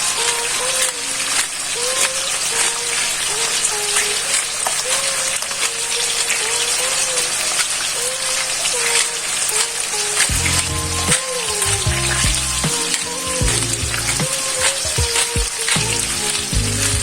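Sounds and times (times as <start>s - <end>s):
soft background melody: 0.0s - 17.0s.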